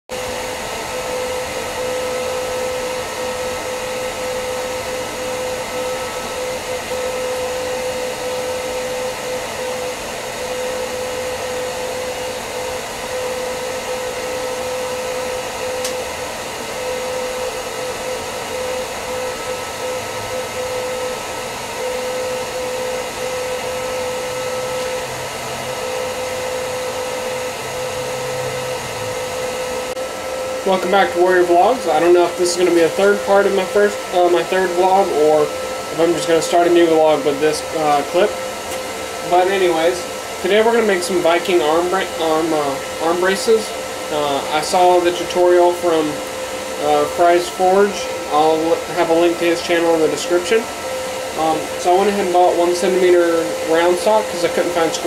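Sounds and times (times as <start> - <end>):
forge blower whirring: 0.1 - 55.0.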